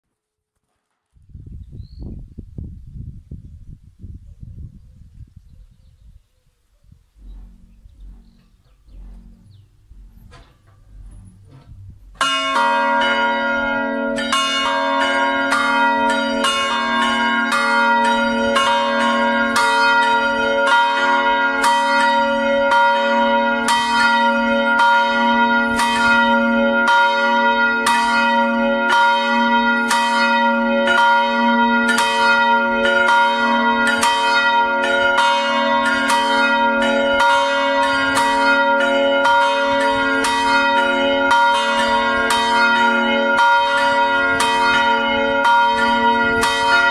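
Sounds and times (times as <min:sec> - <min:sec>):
church bells pealing: 0:07.2 - 0:46.9.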